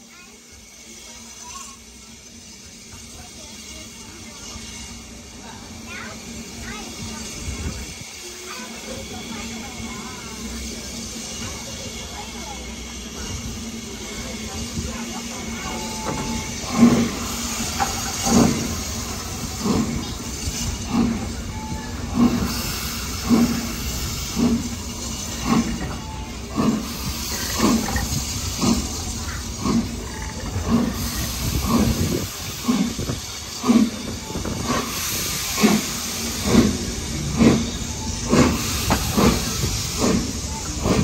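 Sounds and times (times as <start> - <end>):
steady hiss of steam: 0.0 - 41.0
steam locomotive exhaust chuffs: 0.0 - 41.0.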